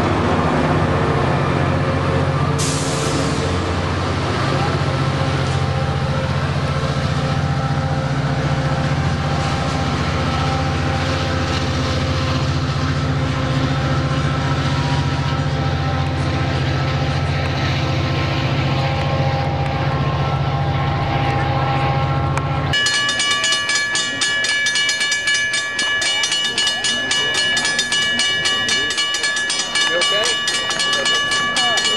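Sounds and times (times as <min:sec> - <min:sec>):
diesel locomotive engine drone: 0:00.0 - 0:31.9.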